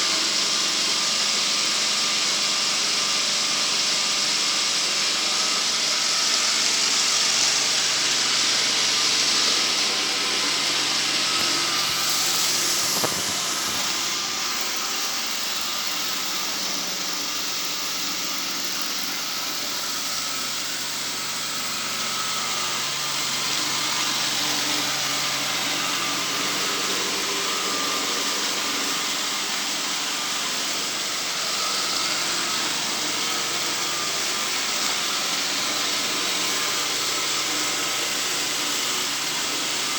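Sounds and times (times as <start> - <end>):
sweeping machine running: 0.0 - 39.9.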